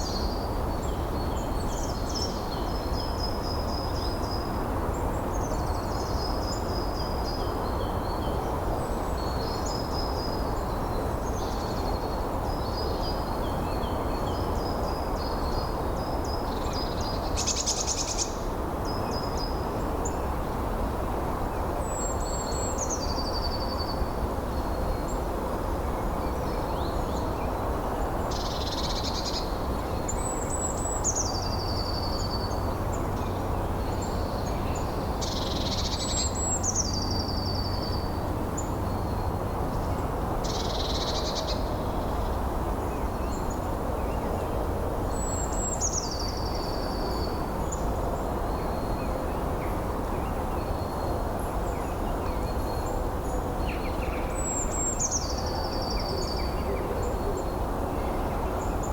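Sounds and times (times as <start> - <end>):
steady wind: 0.0 - 58.9.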